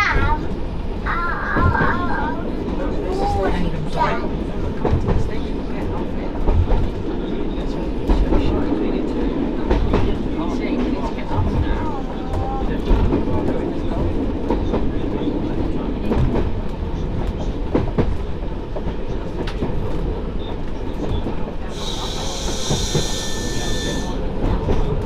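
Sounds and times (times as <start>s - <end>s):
diesel railcar rumble: 0.0s - 25.0s.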